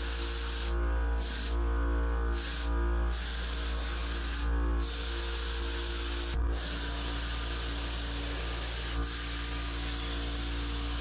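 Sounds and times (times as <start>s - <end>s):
spray gun hissing: 0.0s - 1.6s, 2.3s - 11.0s.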